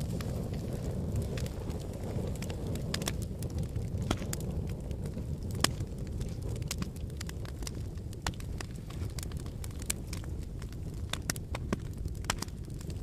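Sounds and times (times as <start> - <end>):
fire crackles and pops: 0.0 - 13.0
low rumble of flames: 0.0 - 13.0.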